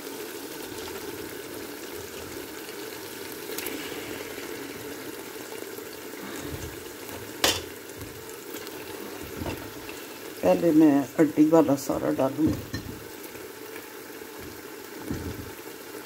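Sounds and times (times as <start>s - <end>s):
curry simmering in a pot: 0.0s - 16.0s.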